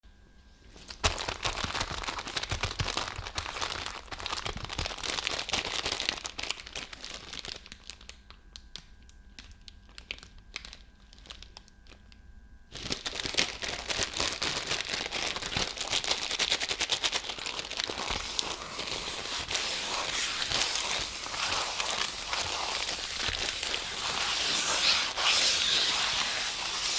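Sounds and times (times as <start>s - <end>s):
plastic wrapper crinkling and tearing: 0.7s - 12.1s, 12.7s - 26.9s.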